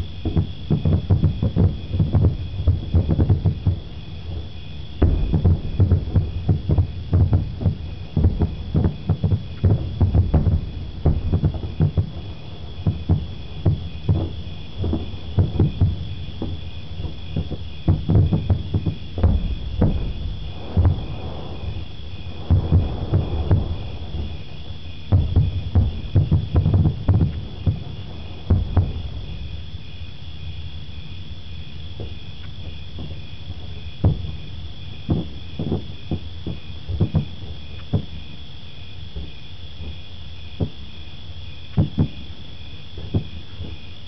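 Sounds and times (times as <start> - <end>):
distant fireworks booming: 0.0 - 44.0.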